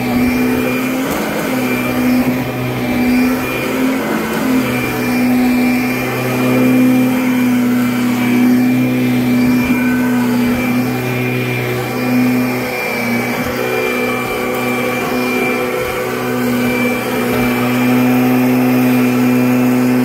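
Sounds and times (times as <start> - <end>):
vacuum cleaner running on carpet: 0.0 - 20.0.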